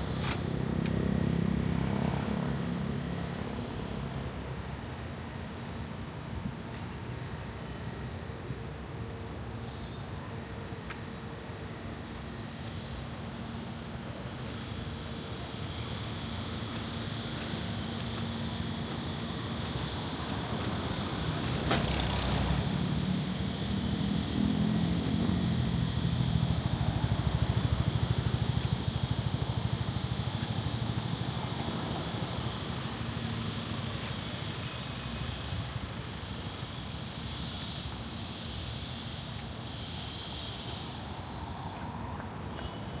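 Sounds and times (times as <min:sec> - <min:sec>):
street noise: 0:00.0 - 0:43.0.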